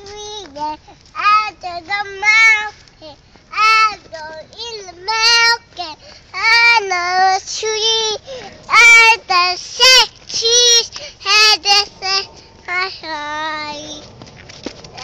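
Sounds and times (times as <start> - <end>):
toddler girl singing: 0.0 - 14.1.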